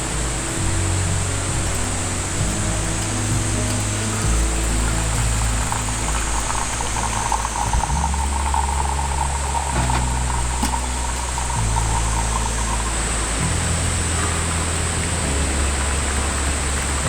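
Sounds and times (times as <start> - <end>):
hot oil sizzling and crackling: 0.0 - 17.0
soft background music: 0.0 - 17.0.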